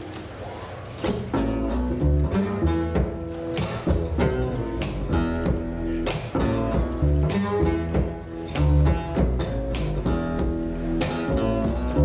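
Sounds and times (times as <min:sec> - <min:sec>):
double bass line: 0:01.0 - 0:12.0
acoustic guitar fast picking: 0:01.3 - 0:12.0.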